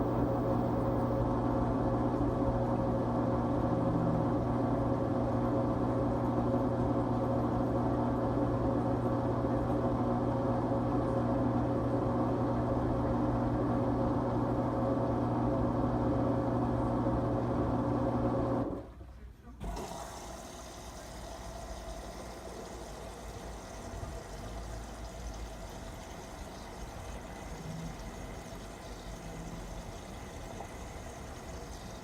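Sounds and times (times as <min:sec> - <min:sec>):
washing machine humming: 0:00.0 - 0:32.0.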